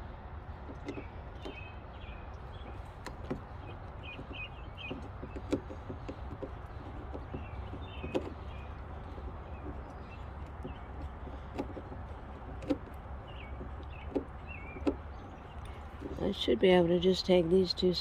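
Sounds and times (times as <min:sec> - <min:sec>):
steady low hum: 0:00.0 - 0:18.0
clicks and taps of handling: 0:00.7 - 0:01.6, 0:02.6 - 0:16.3
bird chirping: 0:00.7 - 0:18.0.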